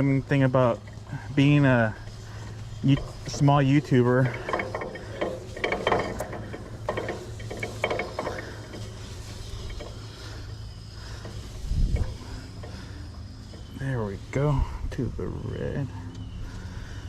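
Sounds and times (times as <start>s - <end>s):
winch ratcheting clicks: 0.0s - 14.4s.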